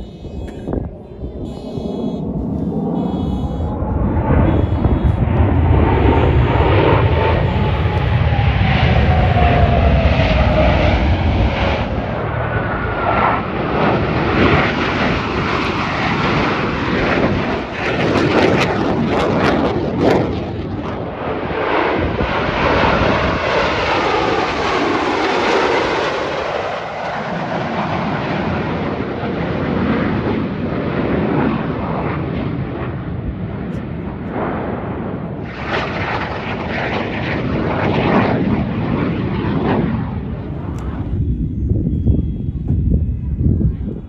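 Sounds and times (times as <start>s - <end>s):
jet engine whine: 0.0s - 44.0s
jet engines flying past: 0.0s - 44.0s.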